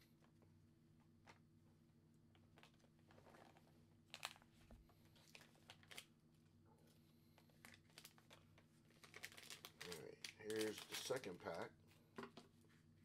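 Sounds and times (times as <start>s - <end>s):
faint rustles of card packaging: 2.2s - 13.0s.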